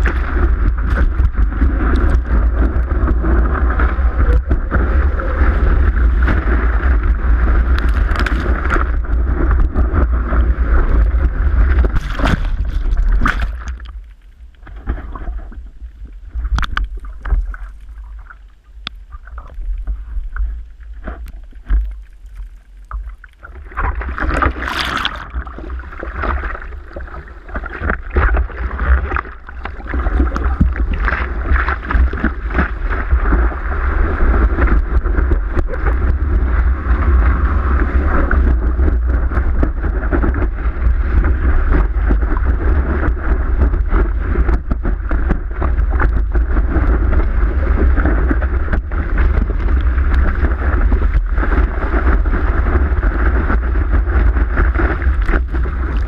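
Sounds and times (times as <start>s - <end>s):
underwater clicks: 0.0s - 56.0s
water rushing: 0.0s - 56.0s
water splashing: 0.0s - 56.0s.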